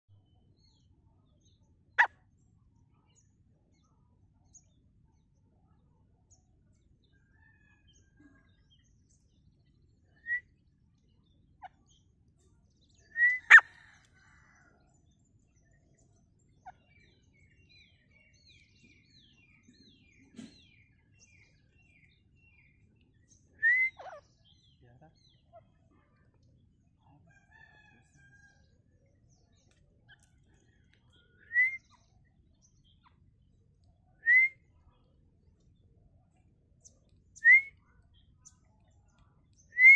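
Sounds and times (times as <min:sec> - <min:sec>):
faint high bird chirps: 0:00.1 - 0:14.7, 0:15.4 - 0:39.9.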